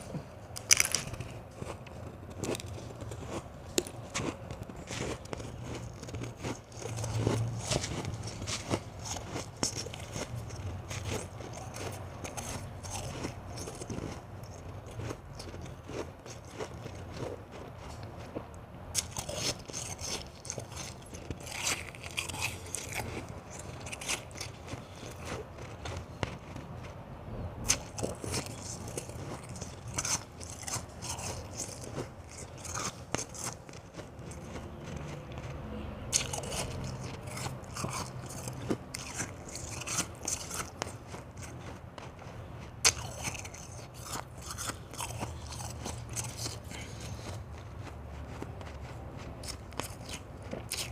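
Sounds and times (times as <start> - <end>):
ice being chewed: 0.0 - 27.0, 27.6 - 50.9.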